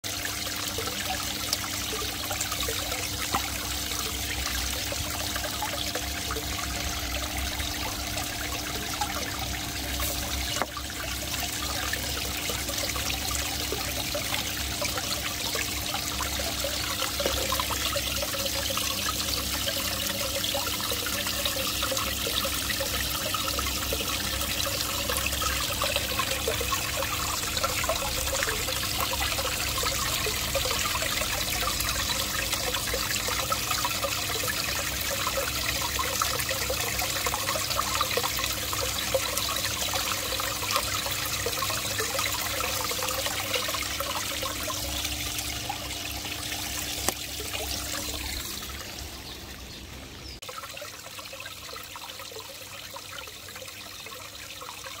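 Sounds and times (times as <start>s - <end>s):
water trickling into pond: 0.0s - 55.0s
faint steady hum: 0.1s - 55.0s.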